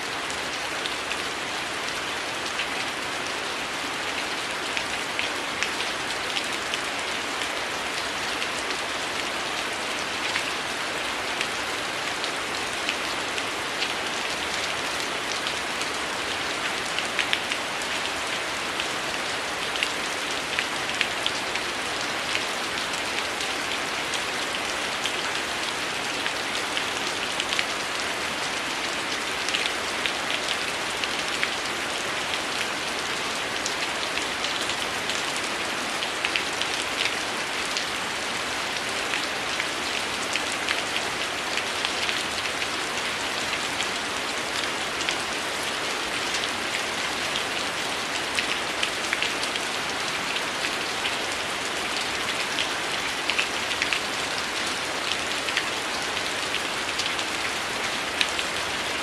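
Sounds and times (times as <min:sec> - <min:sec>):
heavy rain in woodland: 0:00.0 - 0:59.0.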